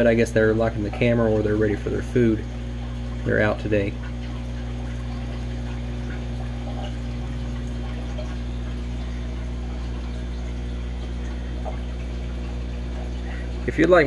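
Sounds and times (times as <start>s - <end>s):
electrical hum: 0.0s - 14.0s
water trickling and splashing: 0.0s - 14.0s.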